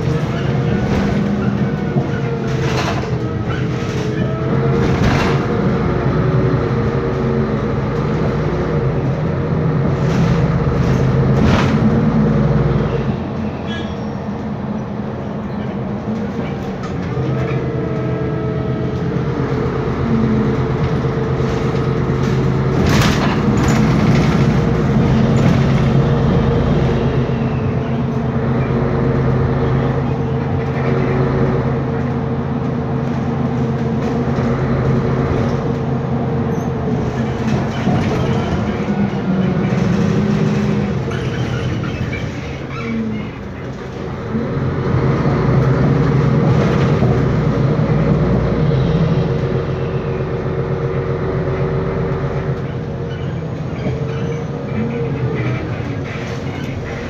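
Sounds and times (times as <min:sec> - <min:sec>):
bus diesel engine hum: 0:00.0 - 0:57.0.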